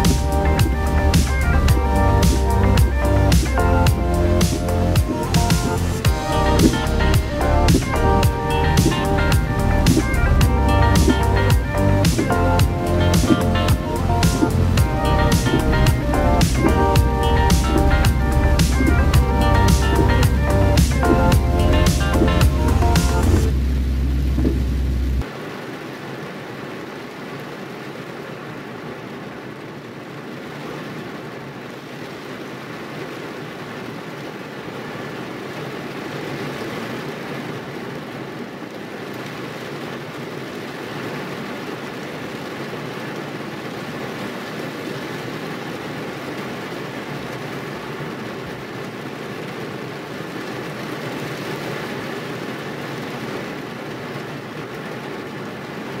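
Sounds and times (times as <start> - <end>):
heavy rain on a car roof: 0.0 - 56.0.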